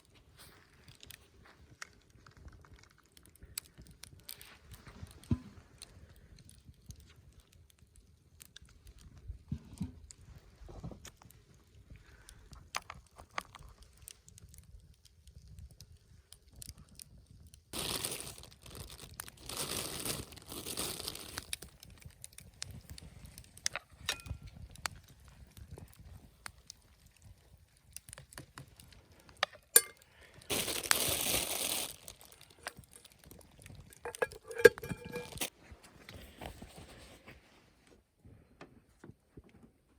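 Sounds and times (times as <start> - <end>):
crinkling and rustling: 0.0 - 38.0.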